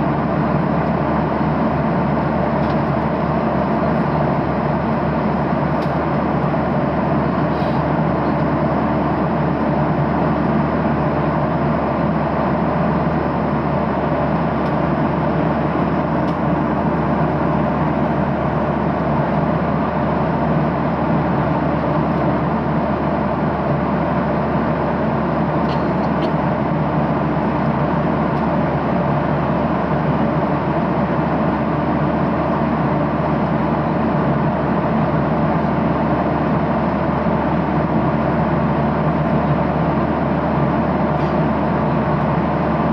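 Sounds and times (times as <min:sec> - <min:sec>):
airplane cabin drone: 0:00.0 - 0:42.9.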